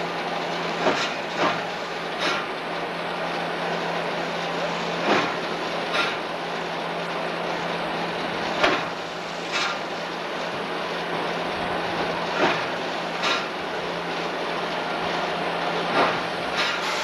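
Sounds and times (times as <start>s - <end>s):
train rolling on track: 0.0s - 17.0s
wheels clacking over rail joints: 0.0s - 17.0s.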